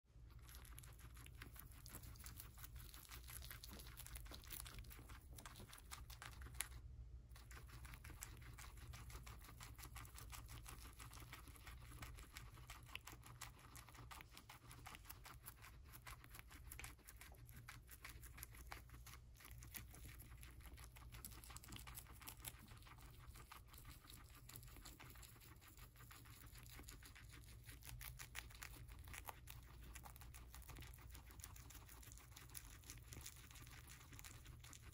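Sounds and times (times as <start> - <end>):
guinea pigs crunching celery: 0.1 - 34.9.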